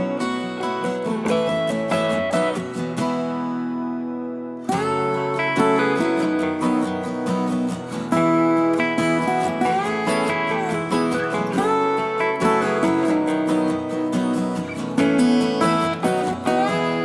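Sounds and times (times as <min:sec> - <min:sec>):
acoustic guitar playing upbeat tune: 0:00.0 - 0:17.0.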